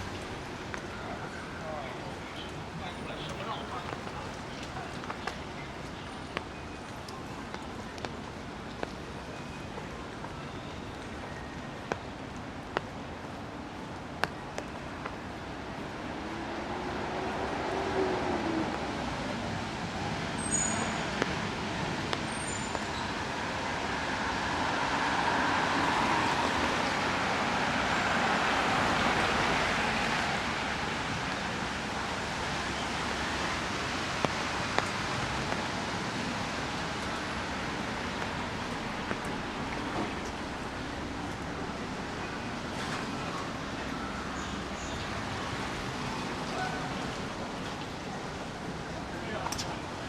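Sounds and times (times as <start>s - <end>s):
city street background: 0.0s - 50.0s.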